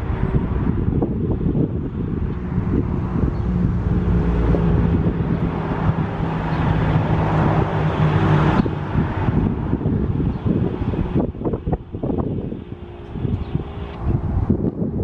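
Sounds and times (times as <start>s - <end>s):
vehicle engine humming: 0.0s - 15.0s
wind buffeting microphone: 0.0s - 15.0s.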